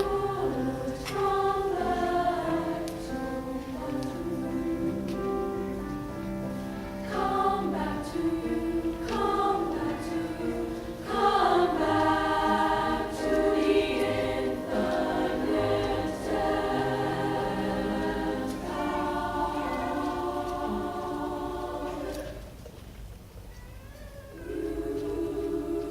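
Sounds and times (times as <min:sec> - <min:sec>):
women's choir singing: 0:00.0 - 0:22.6, 0:24.4 - 0:25.9.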